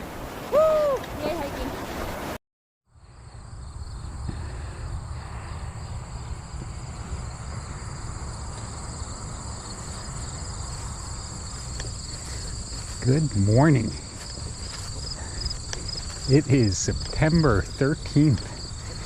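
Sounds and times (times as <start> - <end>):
insects chirring: 2.9 - 19.0.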